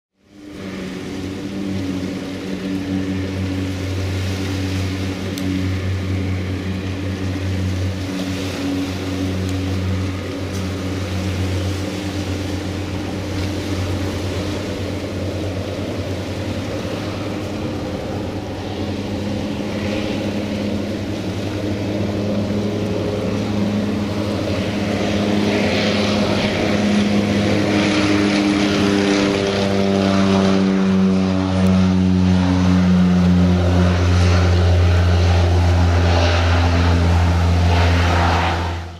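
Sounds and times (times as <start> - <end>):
propeller plane engine drone: 0.1 - 38.9.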